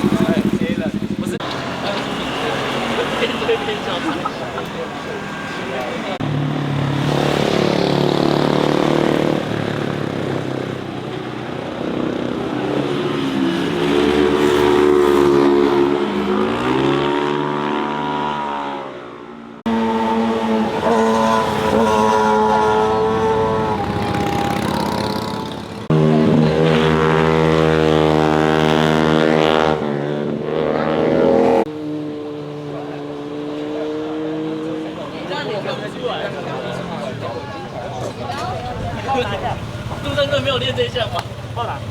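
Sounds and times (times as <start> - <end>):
motorcycle engines passing: 0.0 - 41.9.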